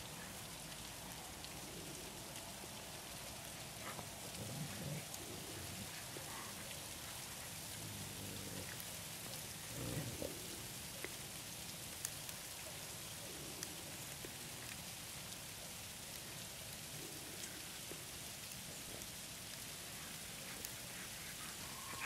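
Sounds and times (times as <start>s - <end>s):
faint ticks: 0.2s - 22.0s.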